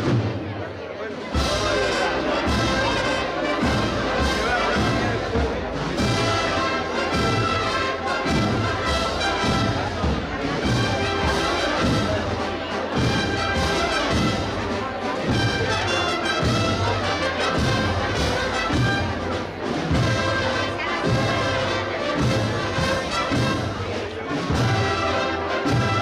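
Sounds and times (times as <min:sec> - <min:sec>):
brass band playing a march: 0:00.0 - 0:00.6, 0:01.2 - 0:26.0
steady low drum beat: 0:01.4 - 0:26.0.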